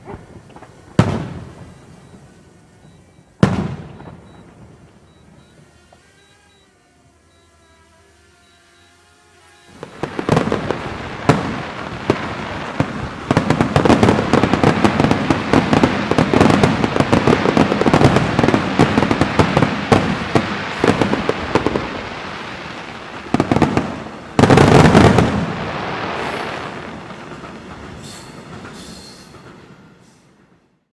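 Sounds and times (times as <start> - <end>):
fireworks bangs and crackling: 0.0 - 6.2, 9.6 - 29.9.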